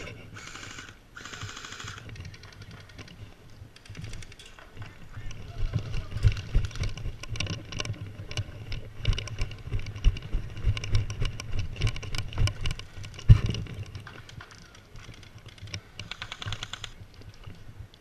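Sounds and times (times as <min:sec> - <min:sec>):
gear rattling: 0:00.0 - 0:17.6
footsteps: 0:02.0 - 0:18.0.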